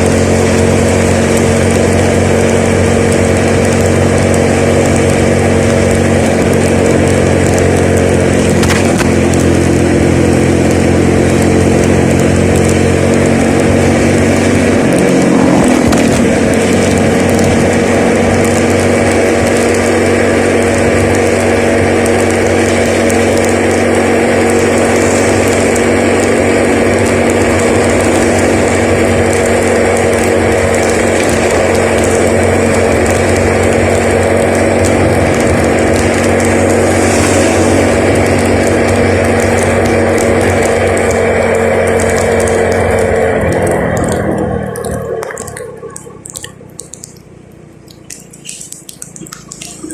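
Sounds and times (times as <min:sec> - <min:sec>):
road and wind hiss: 0:00.0 - 0:49.9
vehicle engine running: 0:00.0 - 0:49.9.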